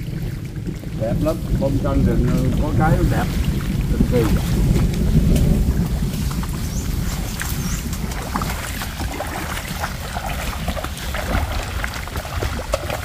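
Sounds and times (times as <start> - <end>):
rain: 0.0 - 13.0
wind on the microphone: 0.0 - 13.0.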